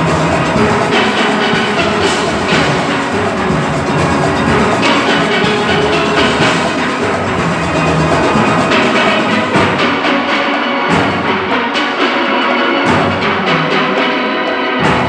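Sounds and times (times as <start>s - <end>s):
drums and percussion: 0.0s - 15.0s
steelpan ensemble playing: 0.0s - 15.0s.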